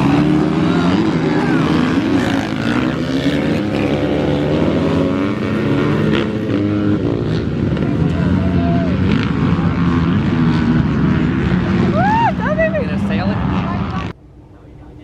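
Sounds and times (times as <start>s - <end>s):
vehicle engine revving: 0.0s - 14.2s.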